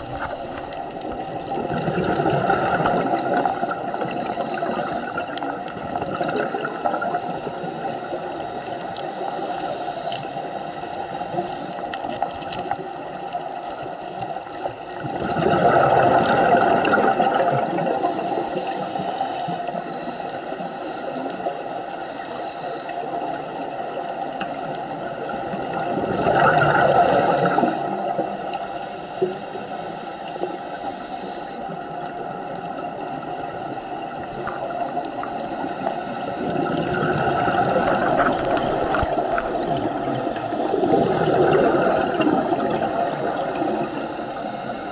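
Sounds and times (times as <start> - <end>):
exhaled bubbles gurgling: 0.0 - 44.9
watery breathing hiss: 0.0 - 44.9.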